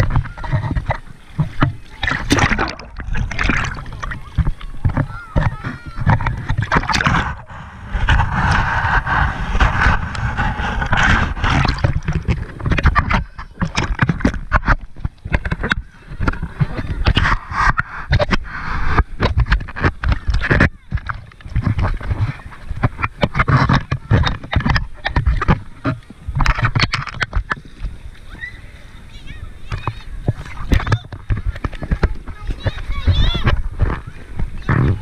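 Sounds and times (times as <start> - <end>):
water knocking on camera: 0.0 - 28.0, 29.7 - 35.0
seawater splashing against camera: 0.0 - 35.0.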